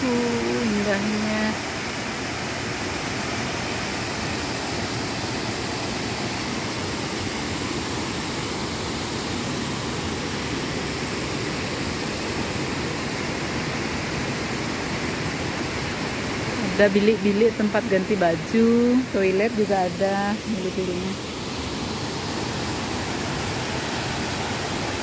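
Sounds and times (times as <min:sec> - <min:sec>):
waterfall rushing: 0:00.0 - 0:25.0
stream flowing over rocks: 0:00.2 - 0:16.6, 0:20.6 - 0:25.0.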